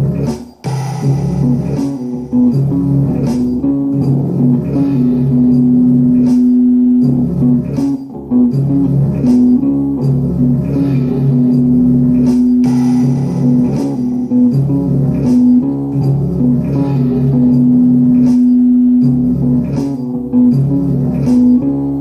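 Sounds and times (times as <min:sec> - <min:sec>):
guitar riff: 0:00.0 - 0:22.0.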